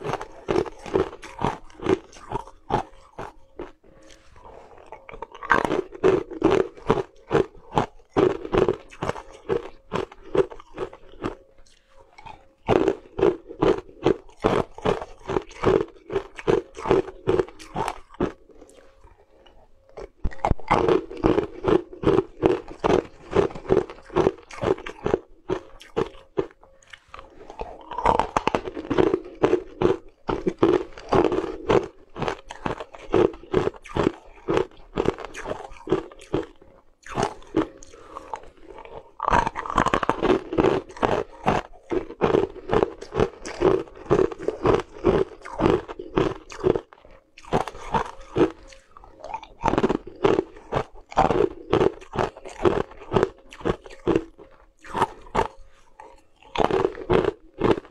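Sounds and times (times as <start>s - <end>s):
teeth crunching ice: 0.0s - 57.9s.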